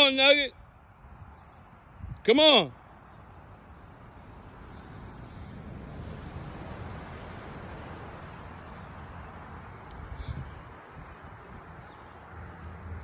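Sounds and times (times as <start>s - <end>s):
wind buffeting microphone: 0.6s - 2.3s, 3.4s - 13.0s.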